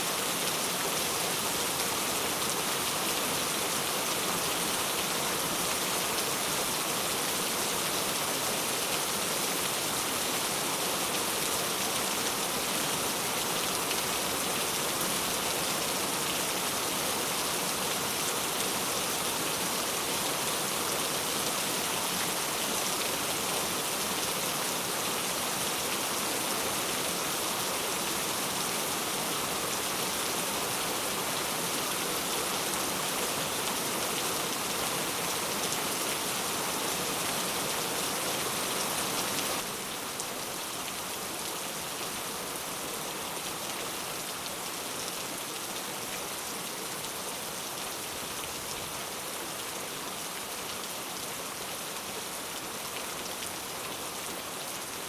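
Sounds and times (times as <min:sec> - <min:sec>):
heavy rain on hard surfaces: 0:00.0 - 0:55.0.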